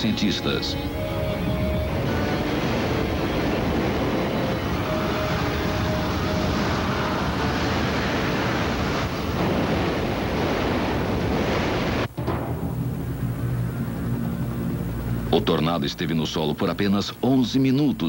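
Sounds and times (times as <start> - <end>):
strong wind on microphone: 0.8 - 15.4.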